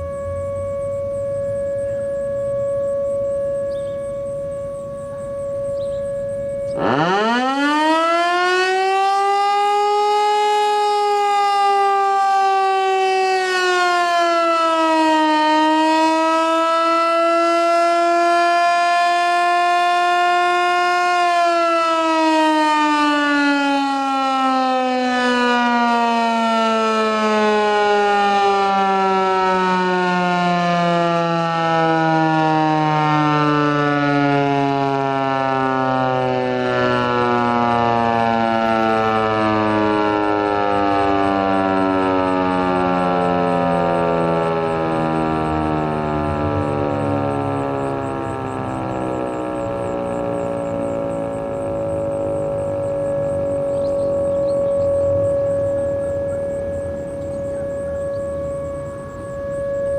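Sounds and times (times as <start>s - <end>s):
distant steady siren tone: 0.0s - 59.9s
warning siren winding up: 0.0s - 59.9s.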